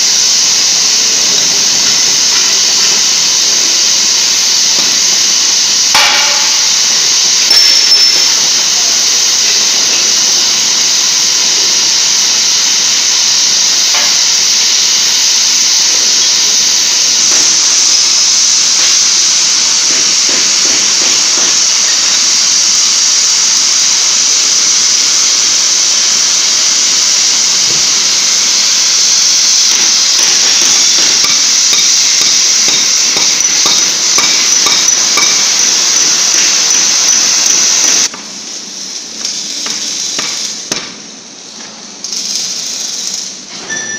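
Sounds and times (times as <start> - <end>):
cutting torch flames hissing: 0.0 - 43.5.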